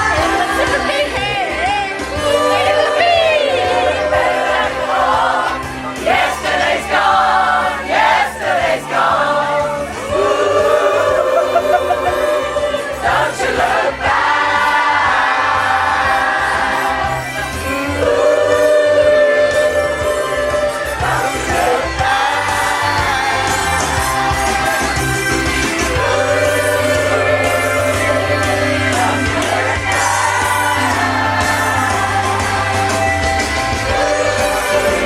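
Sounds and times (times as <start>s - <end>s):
backing music with bass beat: 0.0s - 35.0s
choir singing pop song: 0.0s - 35.0s.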